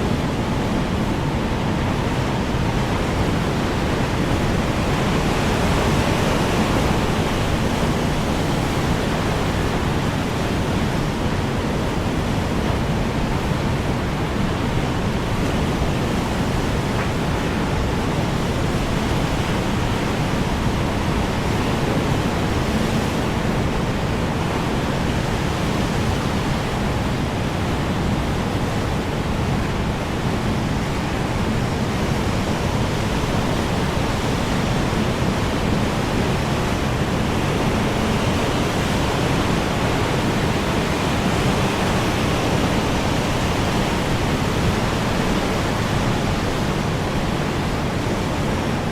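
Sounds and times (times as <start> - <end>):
strong wind blowing: 0.0 - 48.9.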